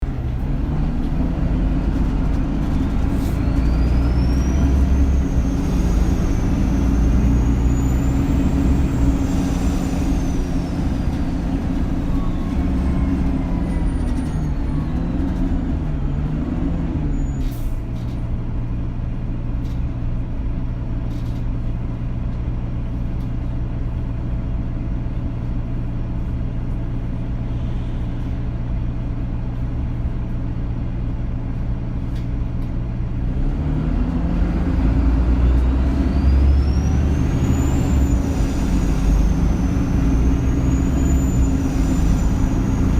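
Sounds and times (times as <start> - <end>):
bus engine running: 0.0 - 42.9
road rumble: 0.0 - 42.9.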